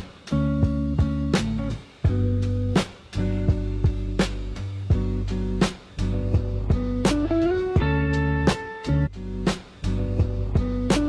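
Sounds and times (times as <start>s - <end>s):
bass-heavy music with percussive hits: 0.0s - 11.0s.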